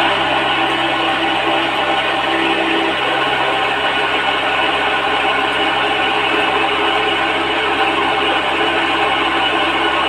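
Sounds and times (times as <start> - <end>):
electric pump motor running: 0.0 - 10.0.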